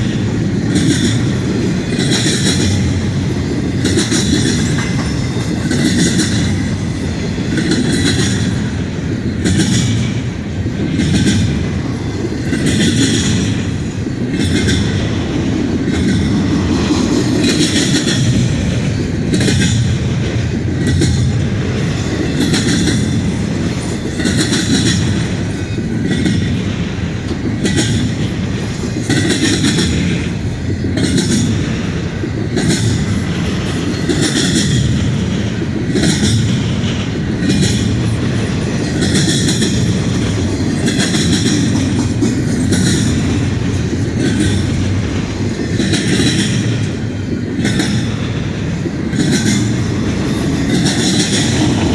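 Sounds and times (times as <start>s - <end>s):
freight train rumbling past: 0.0s - 51.9s
train wheels clacking over joints: 0.0s - 51.9s.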